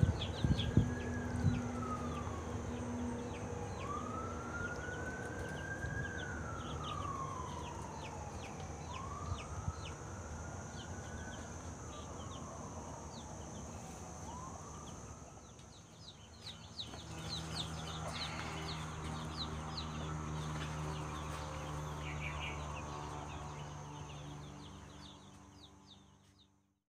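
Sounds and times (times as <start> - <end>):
chicks peeping: 0.0 - 14.0, 14.8 - 26.4
distant siren wailing: 0.0 - 26.3.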